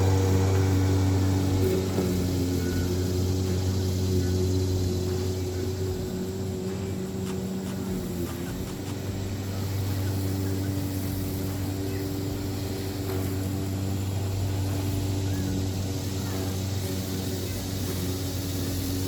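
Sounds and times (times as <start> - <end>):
electric lawn mower cutting grass: 0.0 - 19.0.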